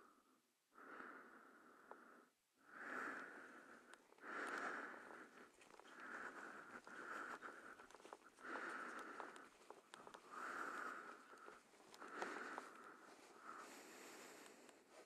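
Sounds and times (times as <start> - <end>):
person breathing: 0.0 - 15.0
faint clicks: 1.8 - 2.1, 3.0 - 15.0.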